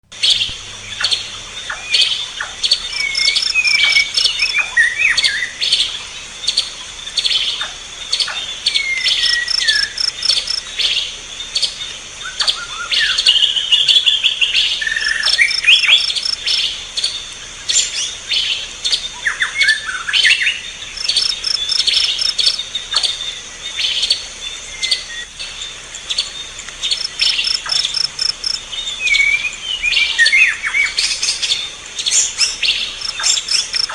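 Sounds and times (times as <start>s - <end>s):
high insect drone: 0.2s - 12.3s, 13.8s - 19.3s, 20.1s - 30.3s, 31.0s - 33.9s.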